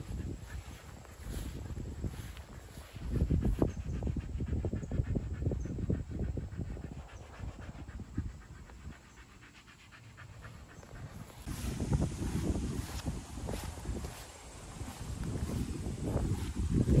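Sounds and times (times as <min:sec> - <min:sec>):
dog panting hard: 0:00.0 - 0:17.0.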